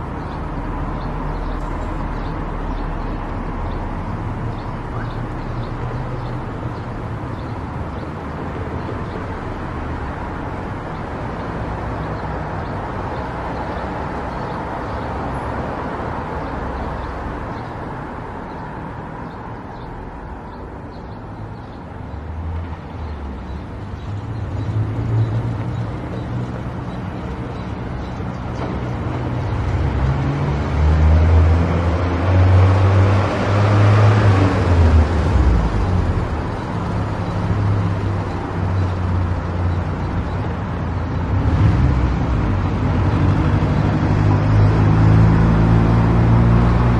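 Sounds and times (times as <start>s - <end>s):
car road and engine noise: 0.0s - 46.9s.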